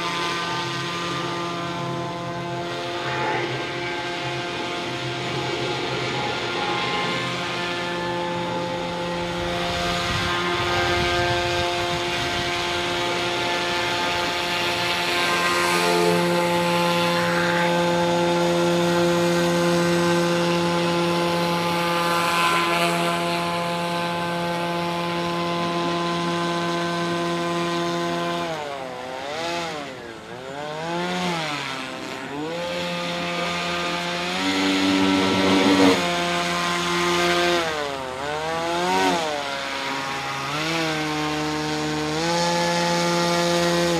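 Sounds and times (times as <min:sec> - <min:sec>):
electric propeller buzzing drone: 0:00.0 - 0:43.9.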